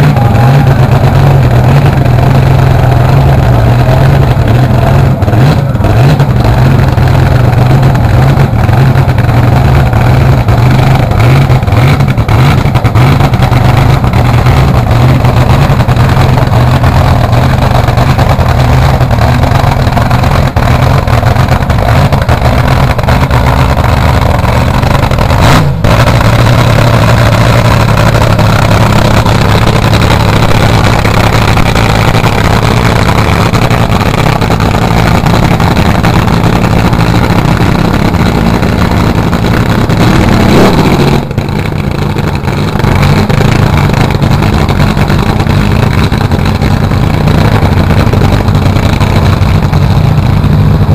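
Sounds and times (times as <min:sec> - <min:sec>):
dragster engine cackling: 0:00.0 - 0:50.9.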